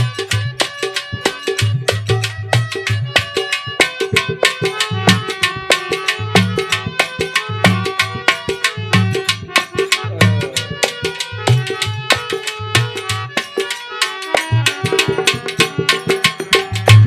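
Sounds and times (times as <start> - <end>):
hand drum strokes: 0.0 - 17.0
held melody notes: 0.0 - 17.0.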